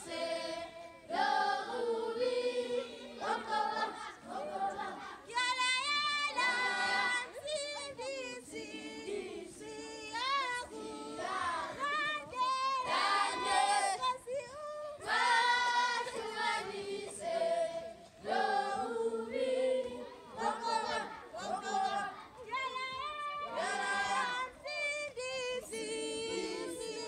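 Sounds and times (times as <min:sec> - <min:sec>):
children singing together: 0:00.0 - 0:14.2, 0:14.9 - 0:27.0.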